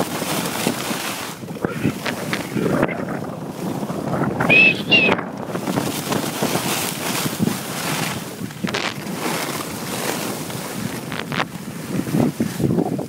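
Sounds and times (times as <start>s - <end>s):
skis scraping on snow: 0.0s - 4.1s, 5.5s - 13.0s
wind buffeting microphone: 0.0s - 13.0s.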